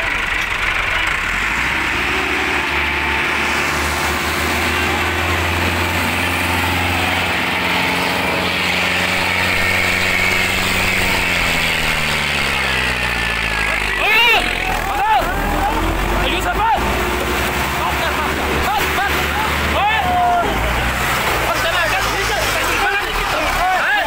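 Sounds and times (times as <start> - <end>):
tractor engines under load: 0.0 - 24.0.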